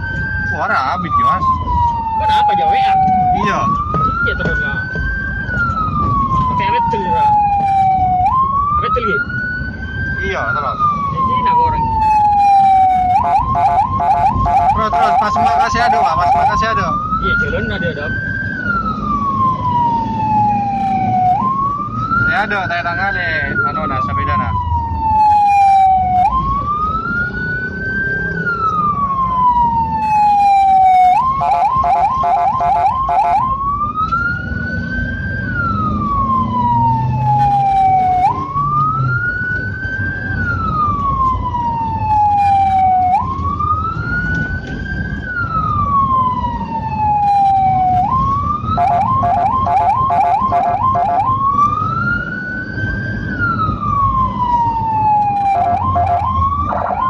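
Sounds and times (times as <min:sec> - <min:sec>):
ambulance siren wailing: 0:00.0 - 0:57.0
fast pulsing siren yelp: 0:00.0 - 0:57.0
vehicle rumble: 0:00.0 - 0:57.0.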